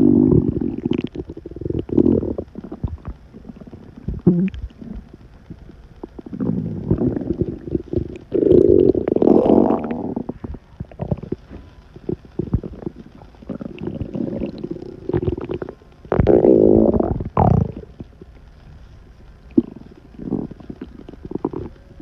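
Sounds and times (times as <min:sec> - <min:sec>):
stomach rumbling and gurgling: 0:00.0 - 0:22.0.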